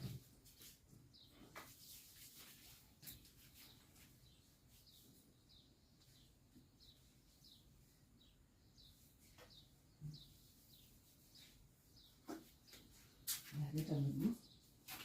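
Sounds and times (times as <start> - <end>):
bird chirping faintly: 0.0 - 15.0.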